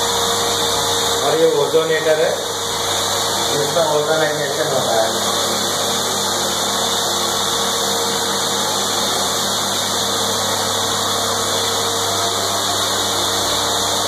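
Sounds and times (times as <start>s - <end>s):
electric pumps humming: 0.0s - 14.0s.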